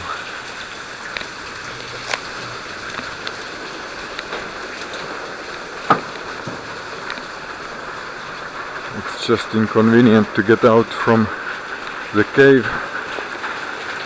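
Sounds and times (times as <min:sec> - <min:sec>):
drops splashing: 0:00.0 - 0:14.0
water pouring: 0:00.0 - 0:14.0.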